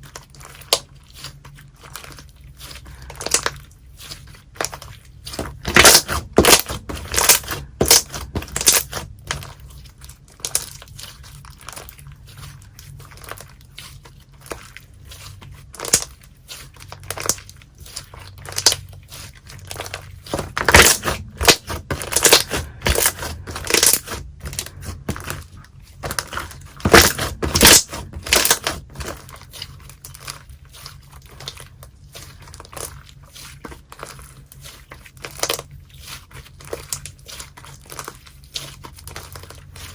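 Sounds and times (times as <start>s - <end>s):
slime popping and crackling: 0.0s - 39.9s.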